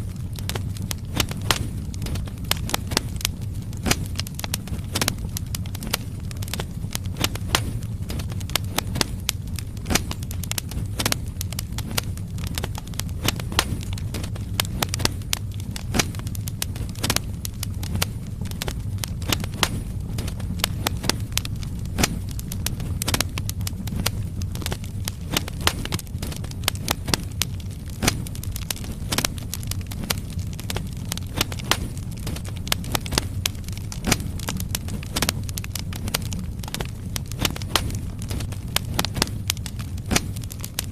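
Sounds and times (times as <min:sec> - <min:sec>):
fire crackling and popping: 0:00.0 - 0:40.9
fire rumbling in fireplace: 0:00.0 - 0:40.9.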